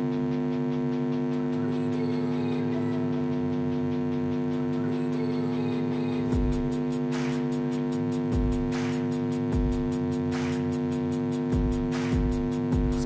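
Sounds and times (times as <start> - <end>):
steady hum of held tones: 0.0 - 13.0.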